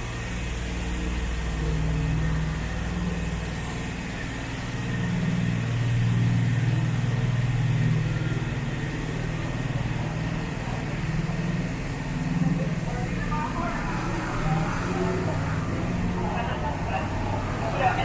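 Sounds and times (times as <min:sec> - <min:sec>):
vehicle engines humming: 0:00.0 - 0:18.0.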